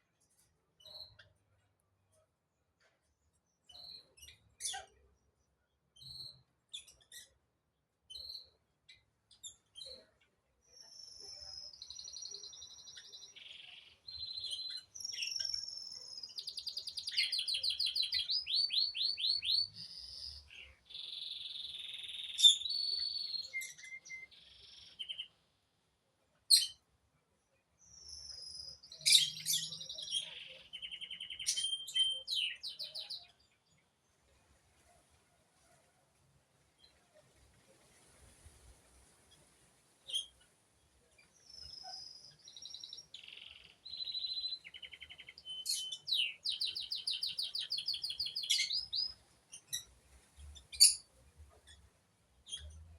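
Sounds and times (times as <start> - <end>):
songbird singing: 0.0 - 35.2, 36.6 - 52.9.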